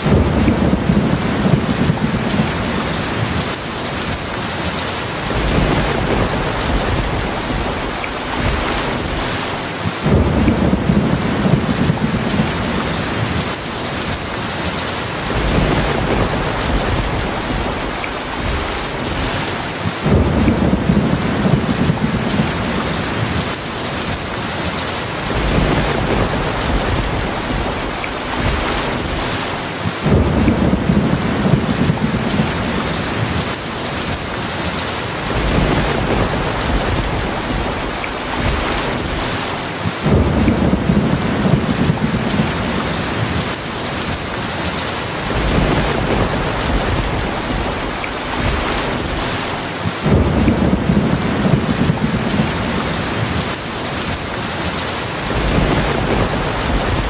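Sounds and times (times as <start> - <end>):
heavy rain hissing: 0.0 - 57.0
low thunder rumbles: 0.0 - 57.0.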